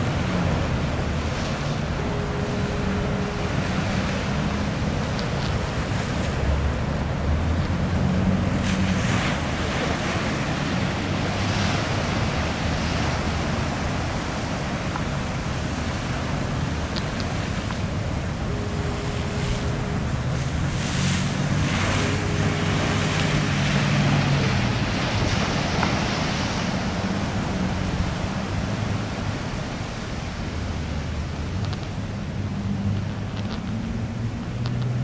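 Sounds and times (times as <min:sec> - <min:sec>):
heavy surf breaking: 0:00.0 - 0:34.4
diesel engine drone: 0:00.0 - 0:35.0.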